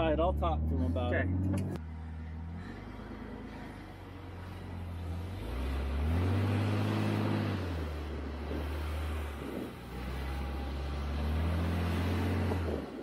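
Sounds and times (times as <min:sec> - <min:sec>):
vehicle engine labouring: 0:00.0 - 0:13.0
wind and tyres hiss: 0:02.4 - 0:13.0.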